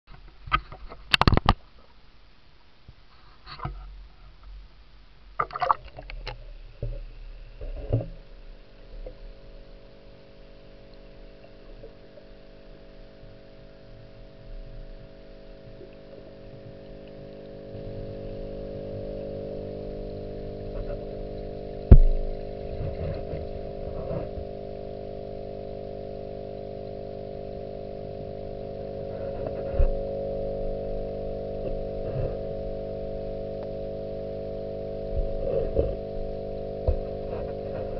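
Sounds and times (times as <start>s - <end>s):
low underwater hum: 0.1s - 37.9s.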